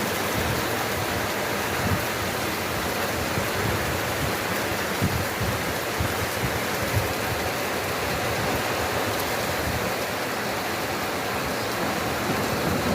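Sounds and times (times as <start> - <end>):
heavy rain: 0.0 - 12.9.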